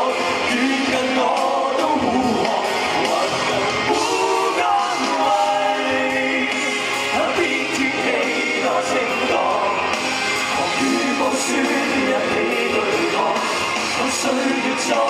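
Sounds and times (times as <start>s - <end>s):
band accompaniment: 0.0s - 15.0s
pop song with group singing: 0.0s - 15.0s.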